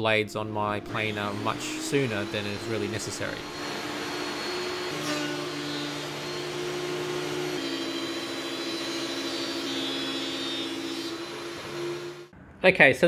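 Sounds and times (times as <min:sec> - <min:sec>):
thickness planer droning: 0:00.4 - 0:12.3.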